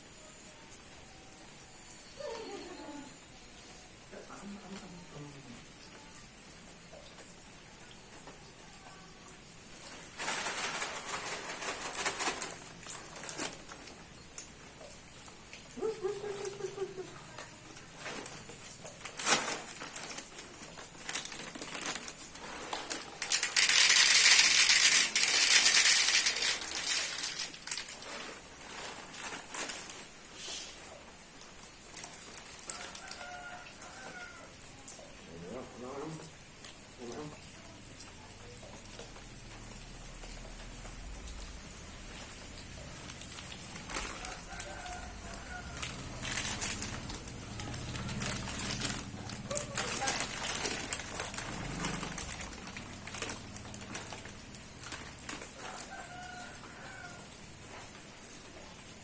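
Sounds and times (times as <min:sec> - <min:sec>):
crackling drips: 0:00.0 - 0:59.0
rain: 0:00.0 - 0:59.0.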